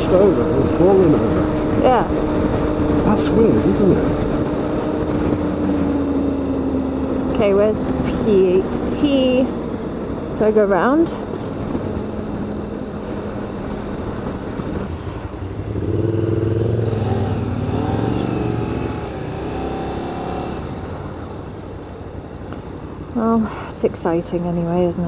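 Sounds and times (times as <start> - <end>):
motorcycle engine running: 0.0 - 22.2
road and wind rumble: 0.0 - 25.0.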